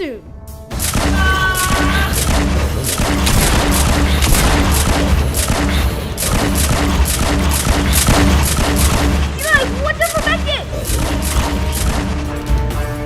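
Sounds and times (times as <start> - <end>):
action music with heavy bass: 0.6 - 13.0.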